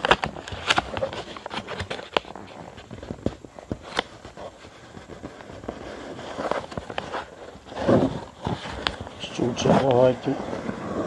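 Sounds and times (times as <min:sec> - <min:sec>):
paper folding and creasing: 0:00.0 - 0:11.0.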